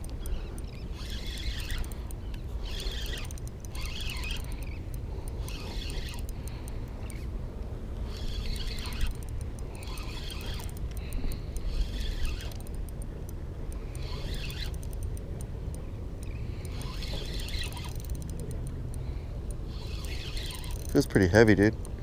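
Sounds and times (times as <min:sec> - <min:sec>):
fishing reel whirring and ticking: 0:00.0 - 0:21.8.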